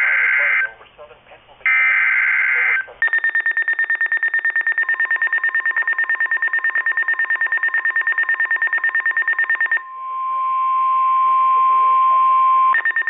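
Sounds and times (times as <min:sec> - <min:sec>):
faint steady warning tone: 0:01.6 - 0:13.0
alarm beeping rapidly: 0:01.7 - 0:13.0.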